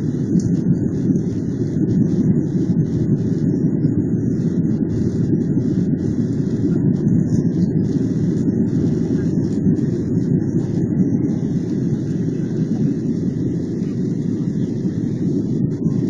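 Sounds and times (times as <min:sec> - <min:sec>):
airliner engines roaring: 0:00.0 - 0:16.0
rushing air: 0:00.0 - 0:16.0.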